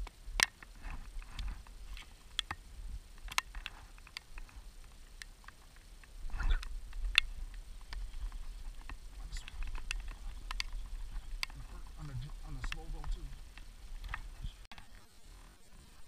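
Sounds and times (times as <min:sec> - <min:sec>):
wind and handling rumble: 0:00.0 - 0:15.6.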